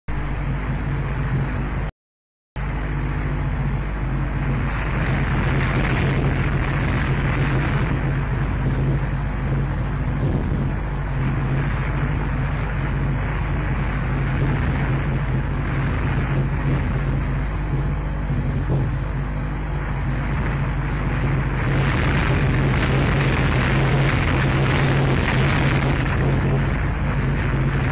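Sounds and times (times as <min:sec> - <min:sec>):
low electrical hum: 0:00.1 - 0:01.9, 0:02.6 - 0:27.9
wind rushing on microphone: 0:02.6 - 0:27.9.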